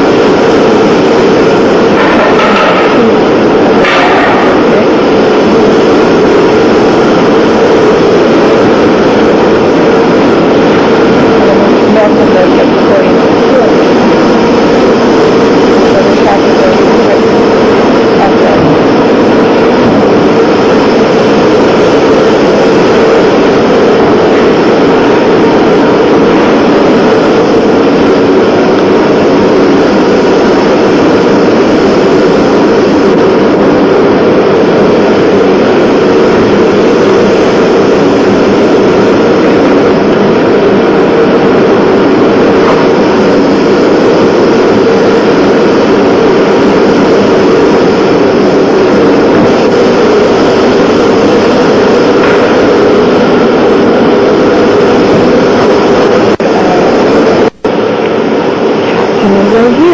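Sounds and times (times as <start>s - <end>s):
loud mechanical drone: 0.0s - 59.9s.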